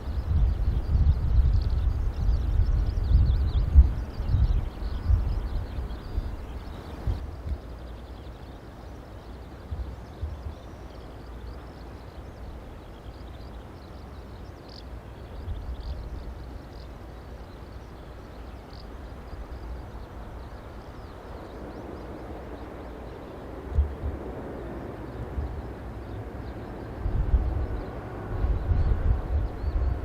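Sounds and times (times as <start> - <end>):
faint high bird chirps: 0.0 - 24.1
strong gusting wind on microphone: 0.0 - 30.0.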